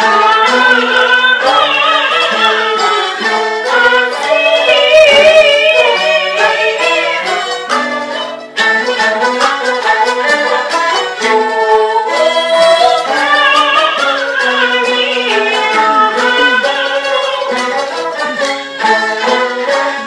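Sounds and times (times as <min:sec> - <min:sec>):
bowed fiddle melody: 0:00.0 - 0:20.0.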